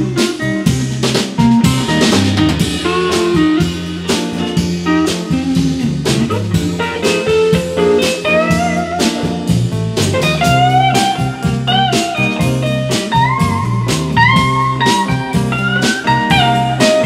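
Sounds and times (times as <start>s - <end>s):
blues band playing: 0.0s - 17.0s
electric guitar lead lines: 0.0s - 17.0s.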